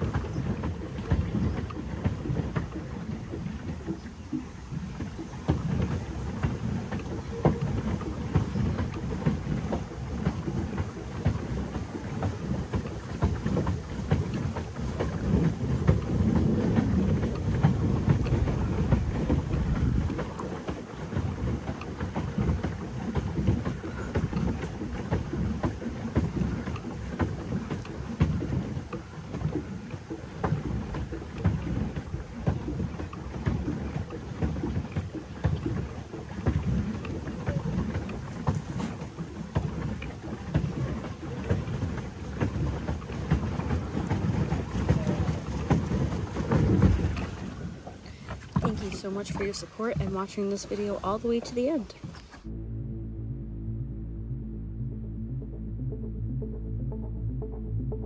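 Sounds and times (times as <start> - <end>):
water rumble: 0.0 - 58.0
wind buffeting microphone: 0.0 - 58.0.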